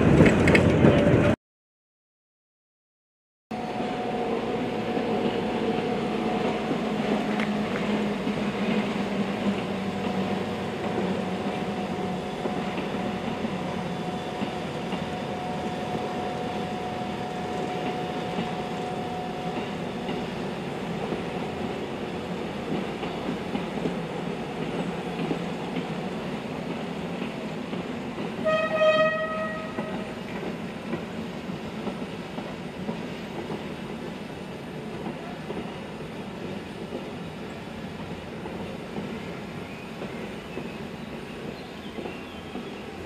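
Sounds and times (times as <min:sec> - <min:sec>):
train wheels rumbling on rails: 0:00.0 - 0:01.4, 0:03.6 - 0:43.0.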